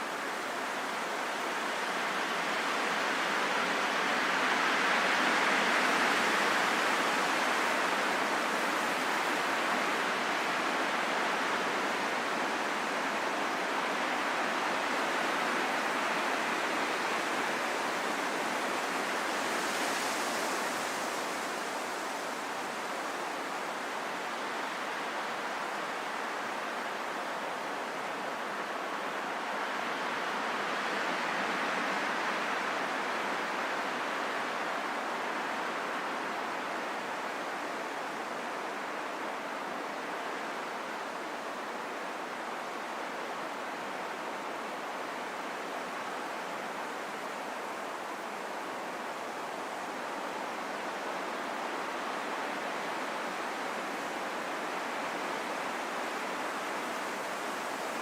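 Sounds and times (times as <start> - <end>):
rain falling in a forest: 0.0 - 58.0.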